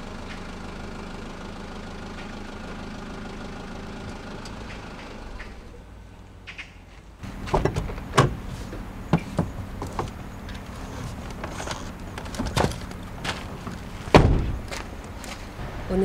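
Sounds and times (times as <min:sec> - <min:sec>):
suv engine idling: 0:00.0 - 0:16.0.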